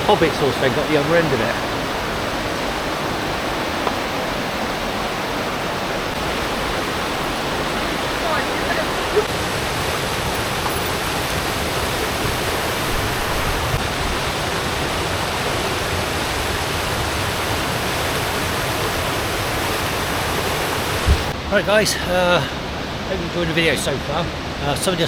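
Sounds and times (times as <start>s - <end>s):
fast-flowing water rushing: 0.0s - 25.0s.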